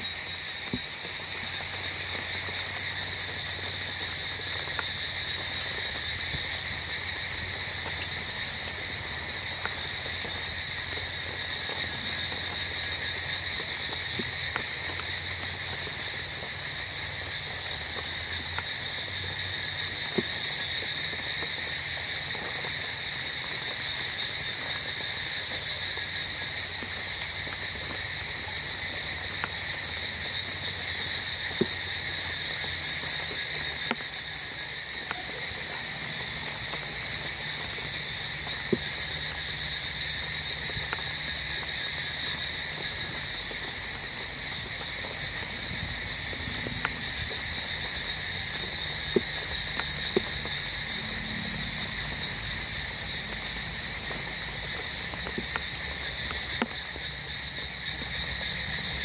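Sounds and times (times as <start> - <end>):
frogs chorus calling: 0.0 - 59.0.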